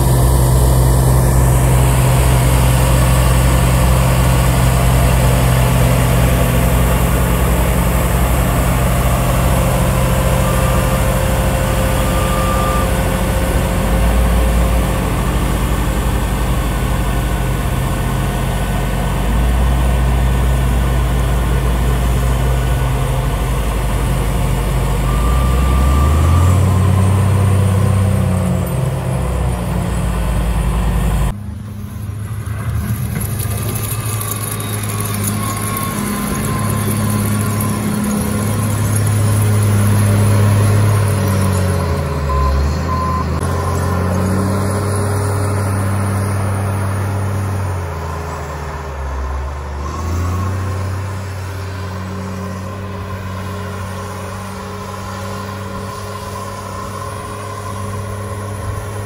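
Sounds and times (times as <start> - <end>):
snowblower rushing: 0.0 - 49.2, 49.9 - 59.0
diesel engine under load: 0.0 - 59.0.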